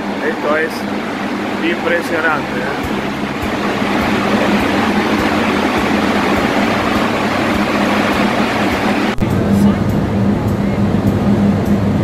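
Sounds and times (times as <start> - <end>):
steady low hum: 0.0 - 12.0
turbine machine rush: 0.0 - 12.0.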